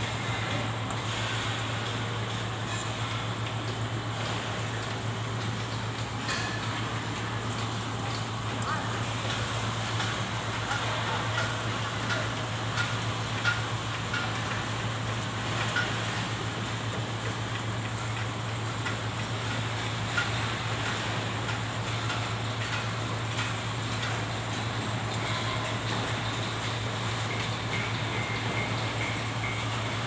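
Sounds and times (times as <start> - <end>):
welding arc crackling and popping: 0.0 - 30.0.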